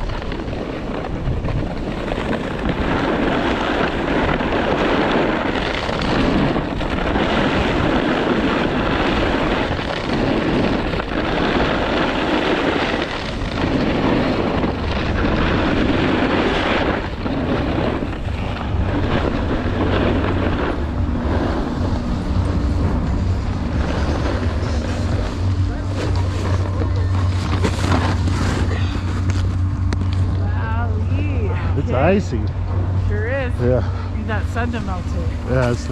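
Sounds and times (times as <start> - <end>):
snowboard scraping over icy snow: 0.0 - 32.4, 33.0 - 35.9
wind rushing over microphone: 0.0 - 35.9.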